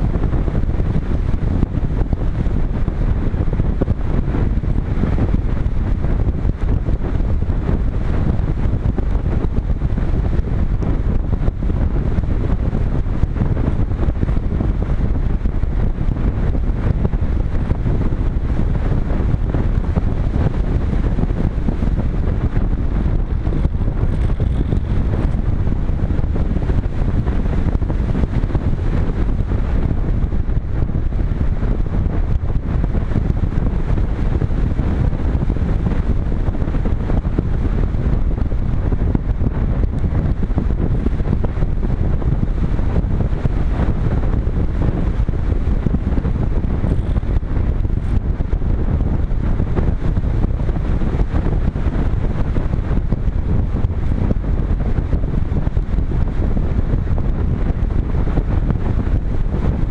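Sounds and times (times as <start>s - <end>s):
rushing wind buffeting camera: 0.0s - 59.9s.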